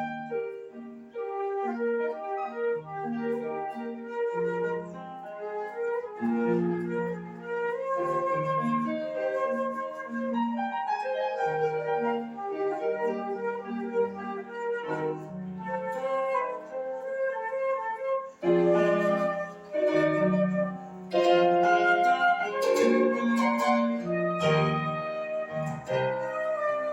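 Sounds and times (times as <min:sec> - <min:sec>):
flute melody: 0:00.0 - 0:26.9.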